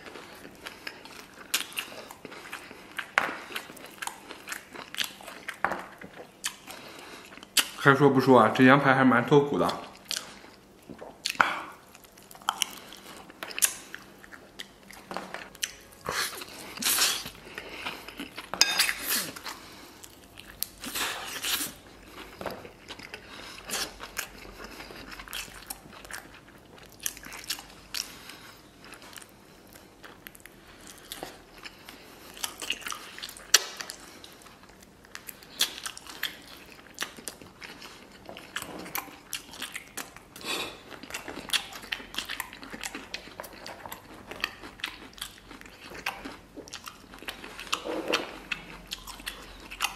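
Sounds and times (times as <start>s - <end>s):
person chewing meat: 0.0s - 7.8s, 9.6s - 49.9s.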